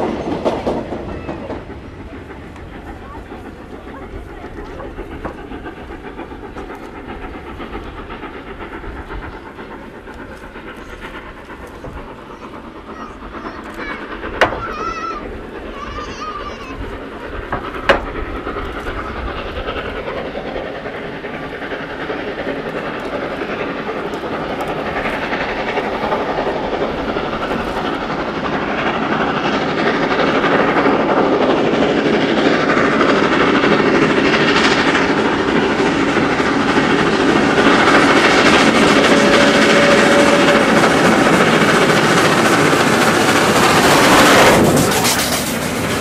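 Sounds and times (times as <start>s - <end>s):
steam locomotive exhaust beats: 0.0s - 46.0s.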